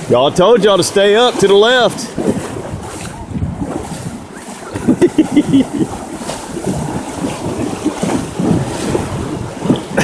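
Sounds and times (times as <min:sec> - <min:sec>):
horses splashing through water: 0:00.0 - 0:10.0
river water churning: 0:00.0 - 0:10.0
wind buffeting microphone: 0:00.0 - 0:10.0.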